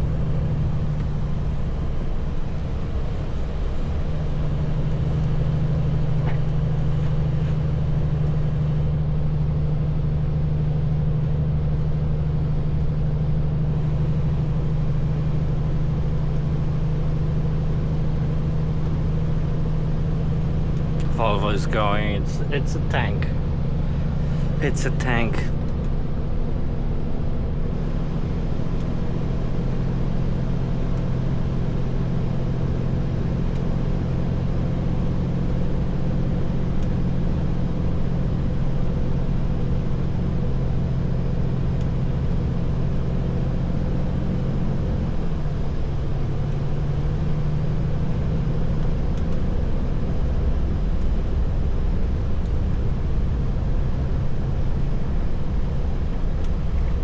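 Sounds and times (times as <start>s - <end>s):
truck diesel engine pulling: 0.0s - 57.0s.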